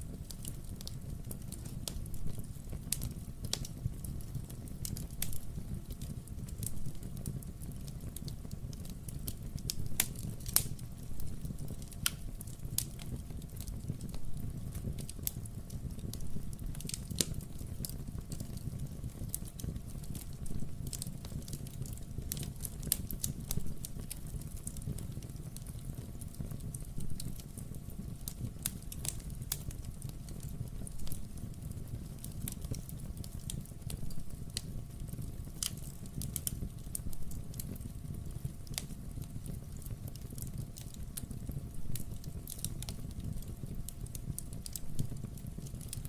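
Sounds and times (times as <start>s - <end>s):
fire low rumble: 0.0s - 46.0s
fireplace crackling and popping: 0.0s - 46.0s.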